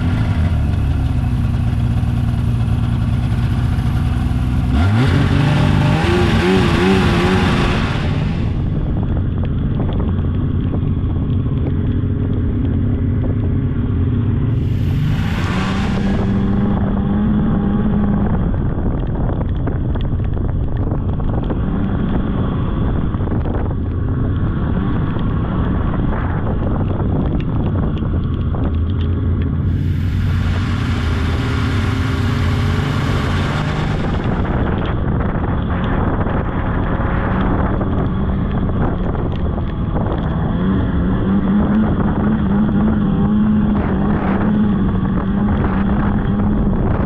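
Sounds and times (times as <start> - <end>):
rush of wind noise: 0.0 - 47.0
snowmobile engine running: 0.0 - 47.0.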